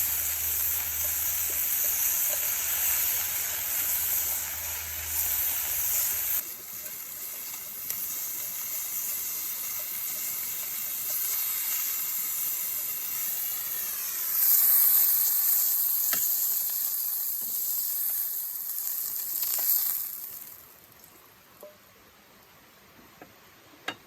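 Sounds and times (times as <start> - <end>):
food sizzling in a pan: 0.0 - 22.7.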